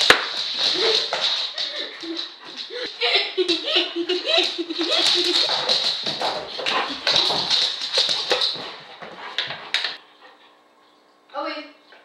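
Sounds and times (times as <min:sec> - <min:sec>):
dog paws tapping and clattering: 0:00.0 - 0:10.0.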